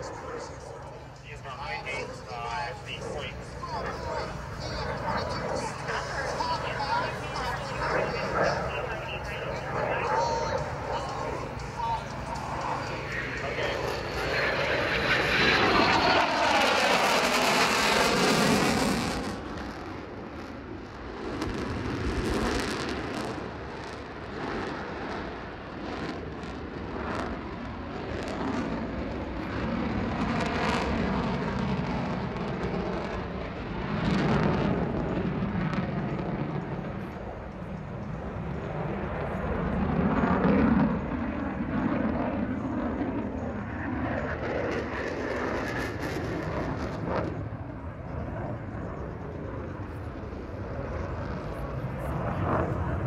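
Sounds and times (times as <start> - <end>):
jet engine roaring: 0.0 - 53.0.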